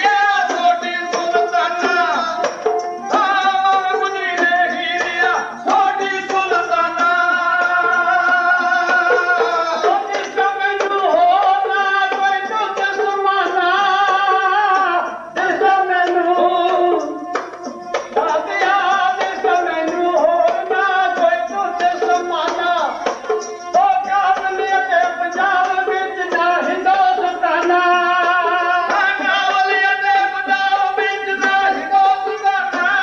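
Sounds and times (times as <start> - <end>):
hand drum: 0.0 - 33.0
person singing devotional song: 0.0 - 33.0.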